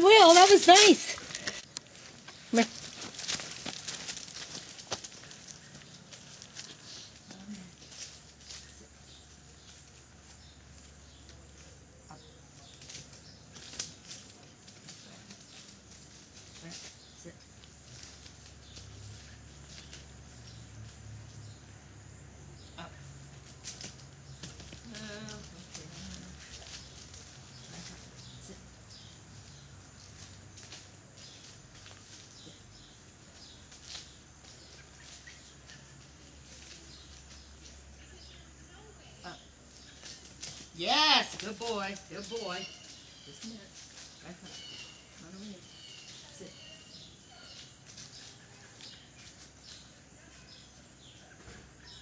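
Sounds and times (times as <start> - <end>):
rustling over dry leaves: 0.0 - 21.6, 23.3 - 51.2.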